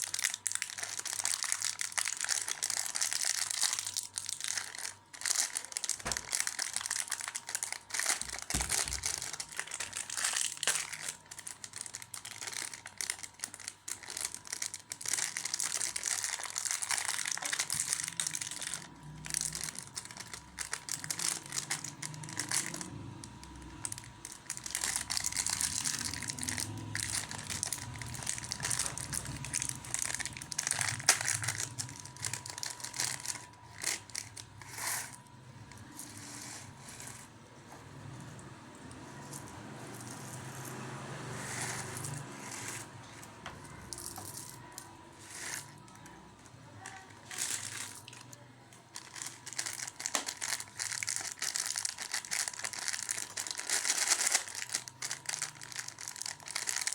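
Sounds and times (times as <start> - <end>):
plastic packaging crinkling: 0.0 - 37.3, 39.2 - 56.9.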